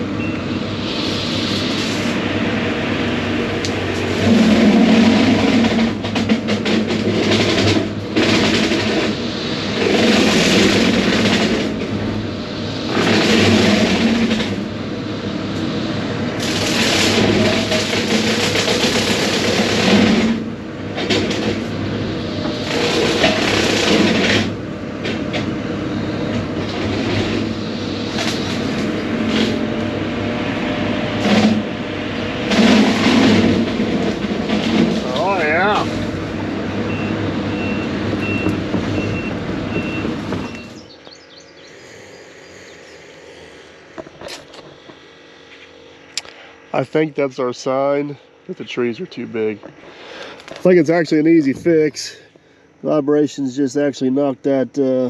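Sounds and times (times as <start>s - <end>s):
excavator engine and hydraulic drone: 0.0s - 55.0s.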